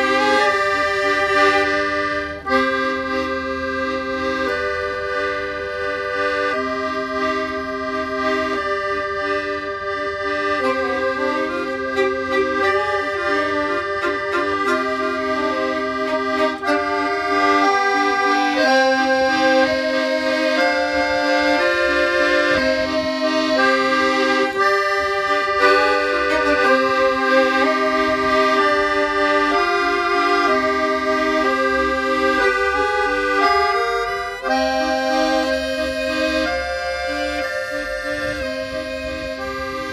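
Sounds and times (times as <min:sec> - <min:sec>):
accordion music: 0:00.0 - 0:39.9.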